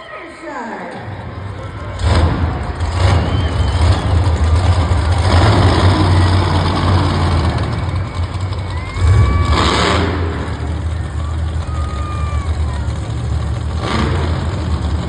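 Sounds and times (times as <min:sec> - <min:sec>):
truck engine rumbling loudly: 0:00.0 - 0:15.0.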